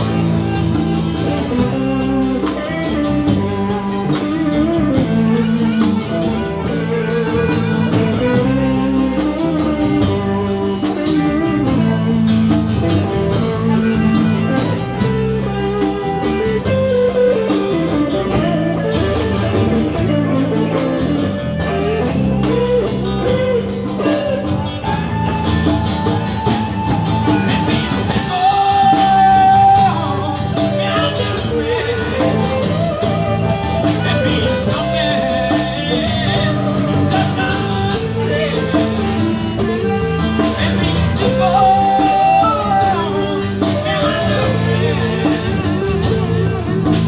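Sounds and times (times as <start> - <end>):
bass guitar: 0.0 - 47.0
electric guitar: 0.0 - 47.0
steady drum beat: 0.0 - 47.0.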